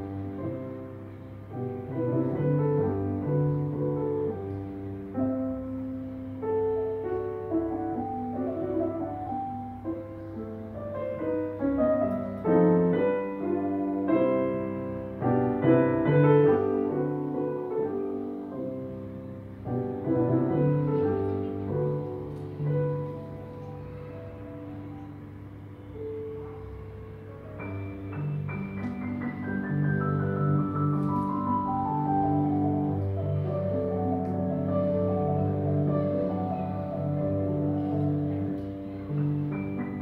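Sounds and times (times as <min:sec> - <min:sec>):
solo classical piano piece: 0:00.0 - 0:40.0.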